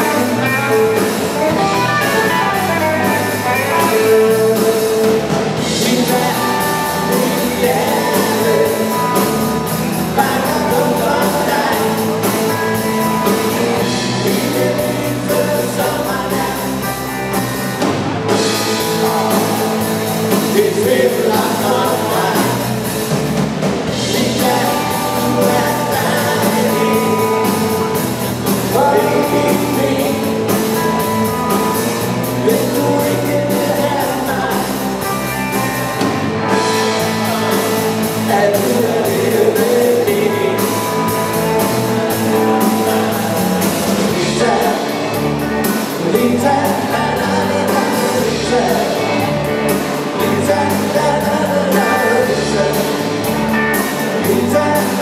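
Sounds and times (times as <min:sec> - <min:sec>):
person singing: 0:00.0 - 0:17.6, 0:18.3 - 0:23.2, 0:23.9 - 0:55.0
bass guitar: 0:00.0 - 0:55.0
drum kit beat: 0:00.0 - 0:55.0
electric guitars: 0:00.0 - 0:55.0.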